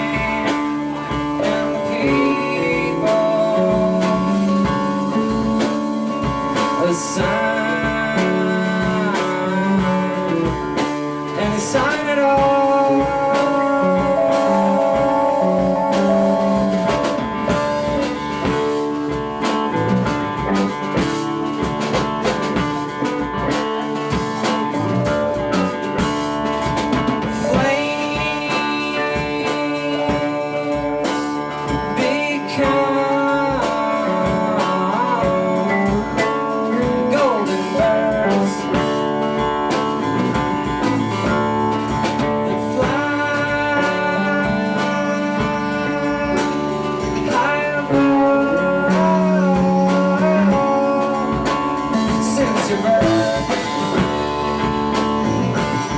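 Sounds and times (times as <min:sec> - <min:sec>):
drum kit playing: 0:00.0 - 0:55.9
guitars: 0:00.0 - 0:55.9
person singing: 0:00.0 - 0:55.9.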